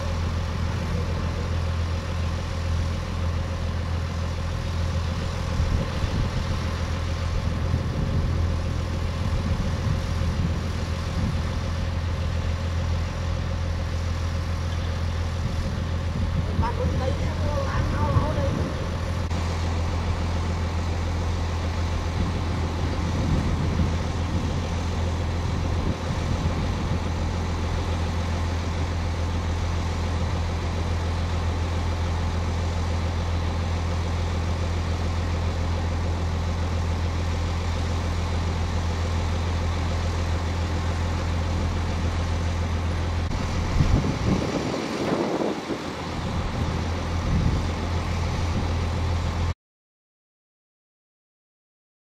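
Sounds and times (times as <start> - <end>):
diesel truck engine running: 0.0 - 49.6.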